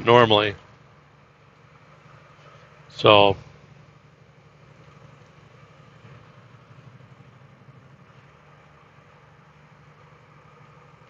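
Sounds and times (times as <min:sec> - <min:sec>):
diesel engine droning: 0:00.0 - 0:11.0
road noise hiss: 0:00.0 - 0:11.0.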